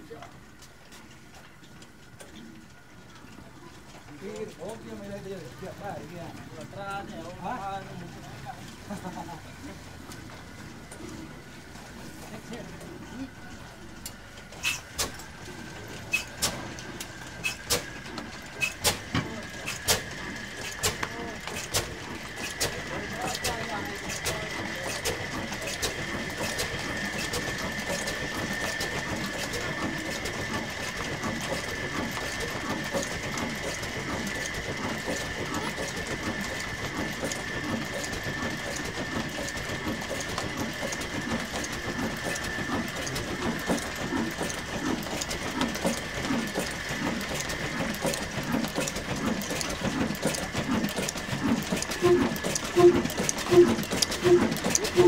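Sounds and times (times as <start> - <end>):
diesel engine clattering: 1.2 - 55.0.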